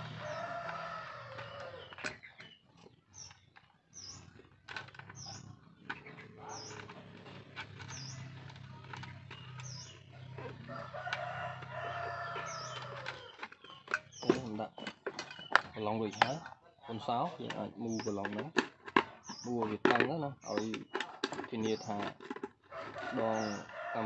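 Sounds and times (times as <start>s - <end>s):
bird chirping: 0.0s - 24.0s
clicks and rustles: 0.0s - 24.0s.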